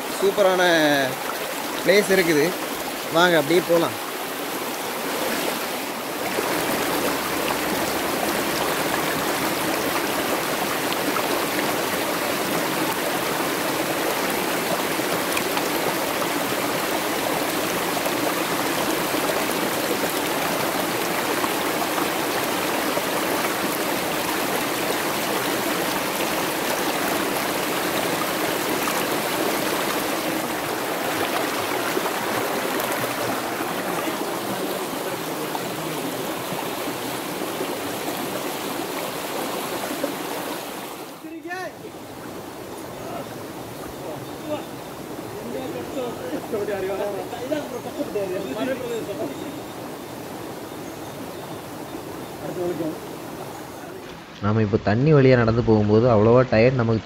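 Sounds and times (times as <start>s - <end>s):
stream rushing over stones: 0.0s - 57.0s.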